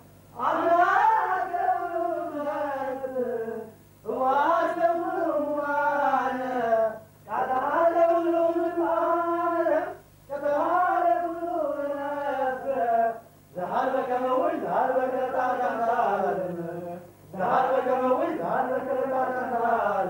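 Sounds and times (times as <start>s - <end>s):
voices chanting a prayer: 0.4s - 20.0s.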